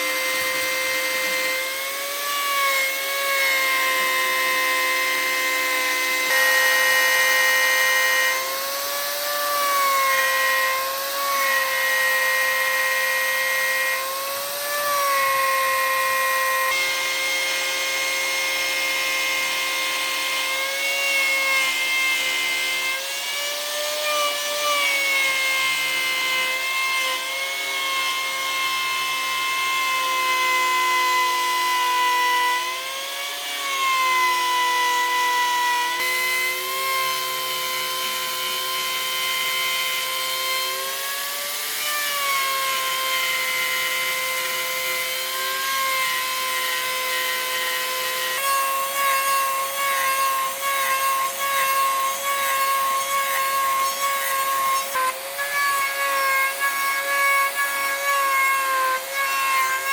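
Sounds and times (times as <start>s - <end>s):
power tool motor whine: 0.0s - 59.9s.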